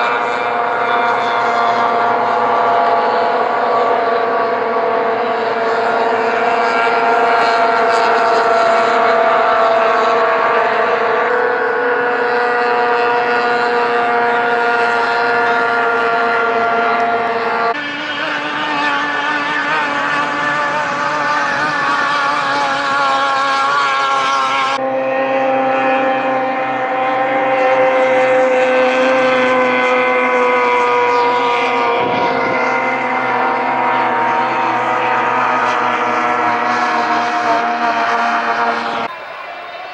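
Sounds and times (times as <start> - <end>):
racing outboard motors running hard: 0.0 - 39.9.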